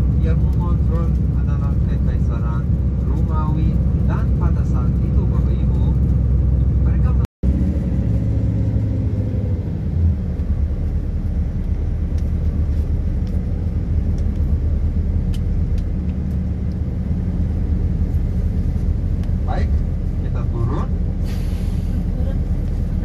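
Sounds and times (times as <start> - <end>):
bus engine and tyres rumbling: 0.0 - 23.0.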